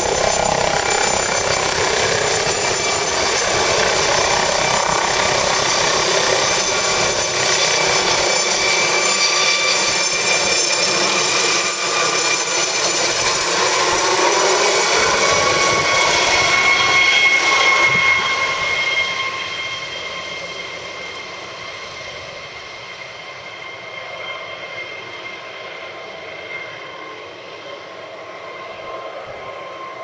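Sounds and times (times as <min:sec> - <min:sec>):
helicopter rotor rush: 0:00.0 - 0:30.0
high turbine whine: 0:00.0 - 0:30.0.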